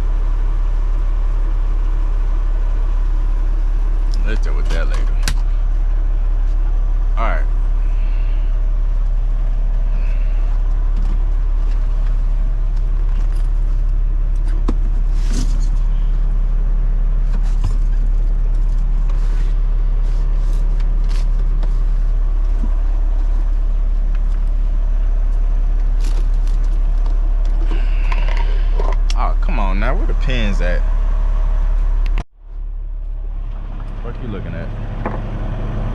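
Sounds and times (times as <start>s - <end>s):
diesel truck engine running: 0.0s - 35.9s.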